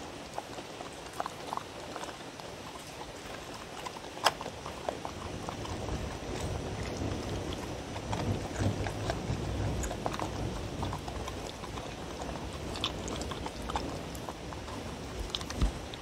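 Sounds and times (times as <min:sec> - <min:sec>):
dog chewing food: 0:00.0 - 0:16.0.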